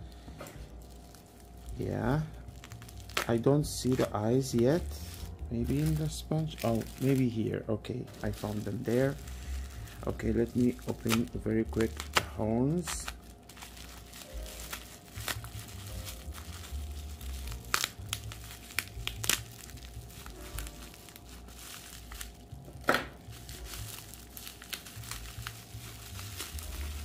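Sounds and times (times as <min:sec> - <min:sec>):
packaging crinkling and rustling: 0:00.1 - 0:27.0
packaging tearing: 0:00.6 - 0:07.5, 0:08.1 - 0:27.0.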